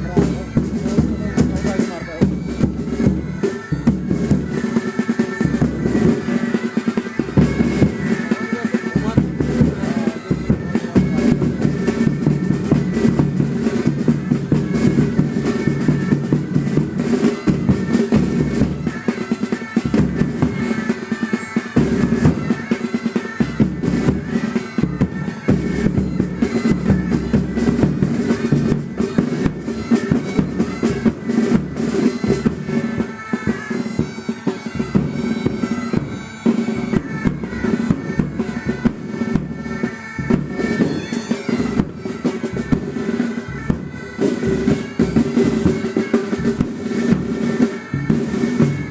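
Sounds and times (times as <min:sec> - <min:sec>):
bagpipes playing a tune: 0:00.0 - 0:48.9
snare and bass drums beating: 0:00.0 - 0:48.9.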